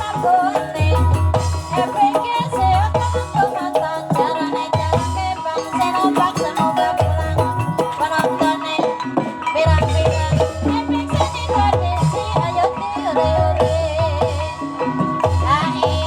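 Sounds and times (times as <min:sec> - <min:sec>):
hand drumming: 0:00.0 - 0:16.0
tuned percussion ensemble: 0:00.0 - 0:16.0.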